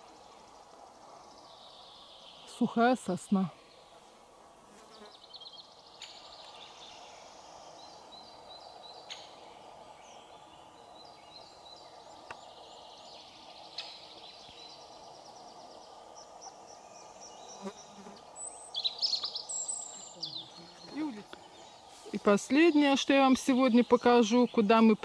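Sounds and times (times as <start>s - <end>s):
hum of flying insects: 0.0s - 25.0s
songbirds singing: 0.0s - 25.0s.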